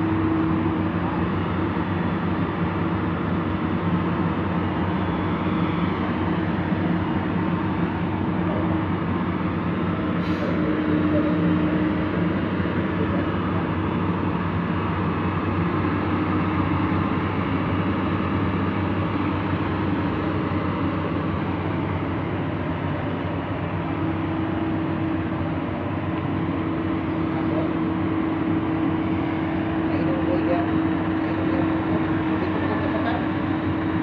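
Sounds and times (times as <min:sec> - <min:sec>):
excavator engine and hydraulics: 0:00.0 - 0:34.0.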